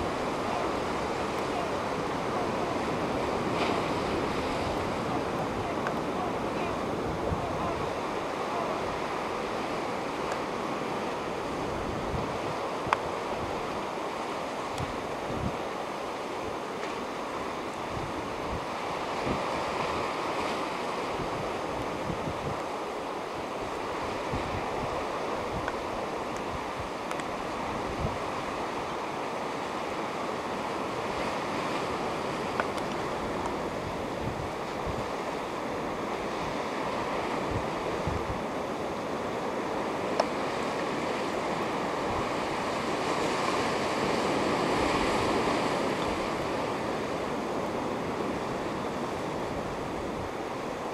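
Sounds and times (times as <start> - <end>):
surf washing against rocks: 0.0 - 50.9.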